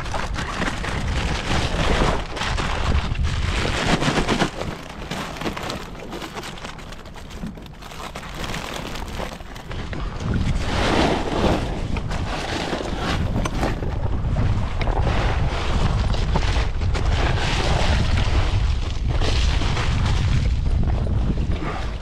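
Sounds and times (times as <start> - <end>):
water splashing against kayak: 0.0 - 22.0
wind buffeting microphone: 0.0 - 22.0.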